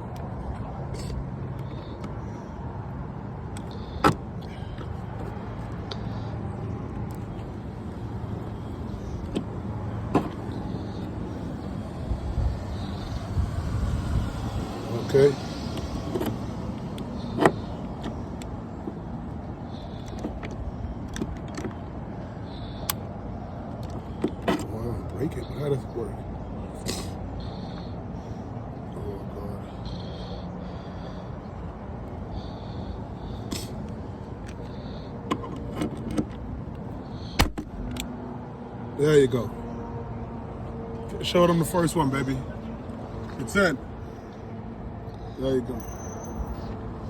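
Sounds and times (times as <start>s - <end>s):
vehicle engine hum: 0.0s - 47.0s.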